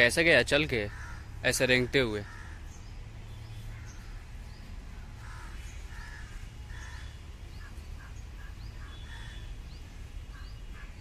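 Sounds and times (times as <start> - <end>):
steady low rumble: 0.0 - 11.0
crows cawing: 0.7 - 11.0.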